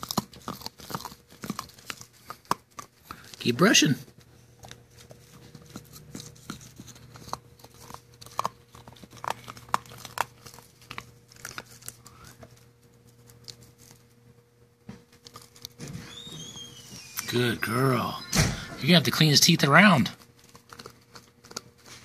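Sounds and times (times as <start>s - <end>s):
puppy chewing a toothbrush: 0.0s - 14.3s, 15.0s - 18.1s, 18.8s - 22.0s.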